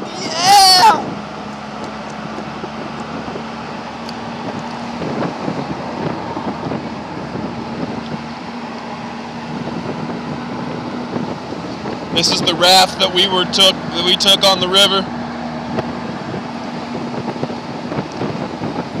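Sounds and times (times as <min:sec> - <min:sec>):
truck road and engine noise: 0:00.0 - 0:19.0
wind rushing over microphone: 0:00.0 - 0:19.0.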